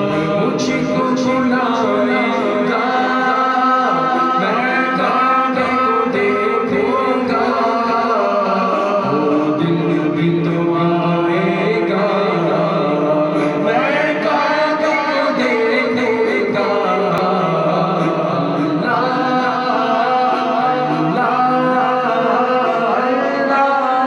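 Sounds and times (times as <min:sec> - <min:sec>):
man singing a devotional hymn: 0:00.0 - 0:24.0.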